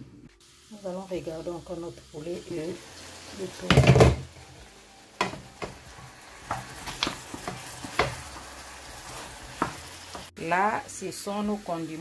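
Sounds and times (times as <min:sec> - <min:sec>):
chicken sizzling: 0:00.0 - 0:12.0.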